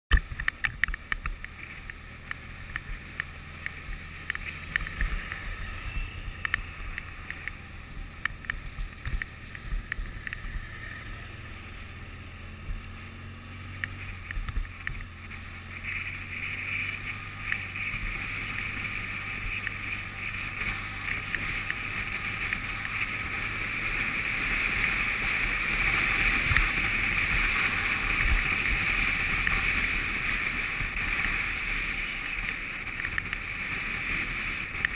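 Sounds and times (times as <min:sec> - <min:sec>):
motorcycle engine hum: 0:00.1 - 0:34.9.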